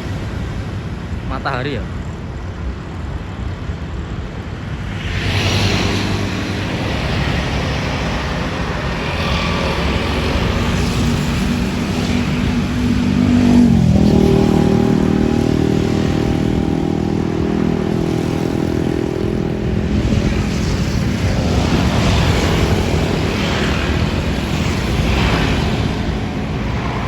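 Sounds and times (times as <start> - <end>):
road traffic noise: 0.0 - 27.0
bus passing close by: 2.9 - 27.0.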